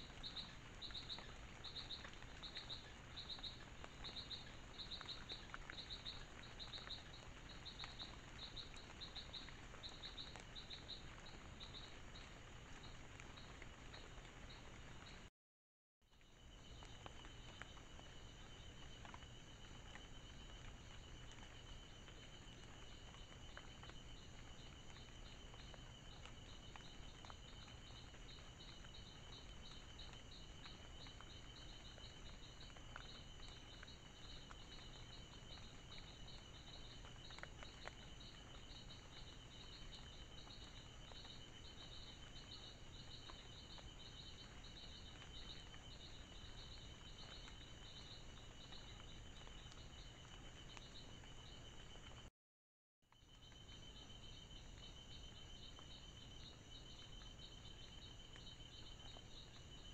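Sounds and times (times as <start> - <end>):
insect chirping: 0.0 - 15.2, 16.2 - 52.2, 53.1 - 59.9.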